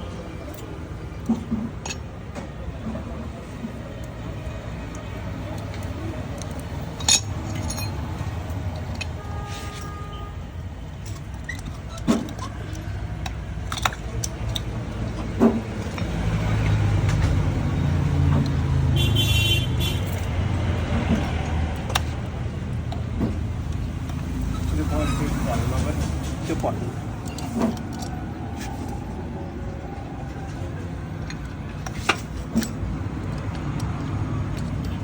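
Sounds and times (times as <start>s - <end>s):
engine rumble: 0.0s - 35.0s.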